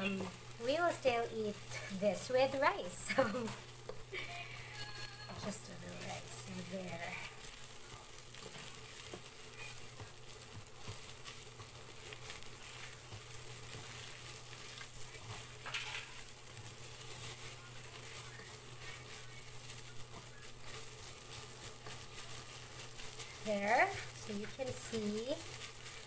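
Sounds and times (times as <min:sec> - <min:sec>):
filling sizzling in pan: 0:00.0 - 0:26.0
spatula scraping pan: 0:00.0 - 0:26.0.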